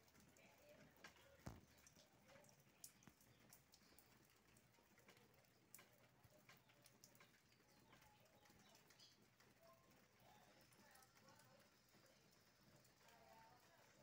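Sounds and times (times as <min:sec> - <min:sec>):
drips falling from roof edge: 0:00.0 - 0:14.0
faint rain: 0:00.0 - 0:14.0.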